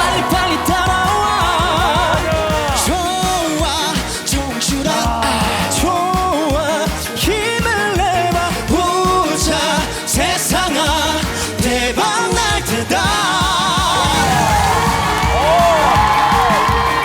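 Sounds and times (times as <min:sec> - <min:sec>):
band backing with steady beat: 0:00.0 - 0:17.0
vocal group singing pop song: 0:00.0 - 0:17.0.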